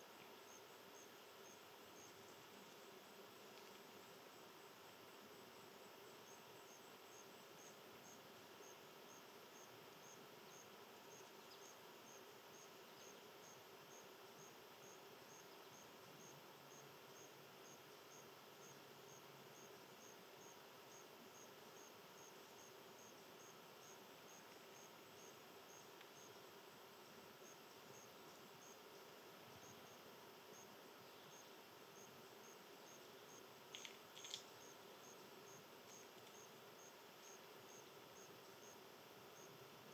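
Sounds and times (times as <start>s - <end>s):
faint insect chirping: 0.0s - 39.9s.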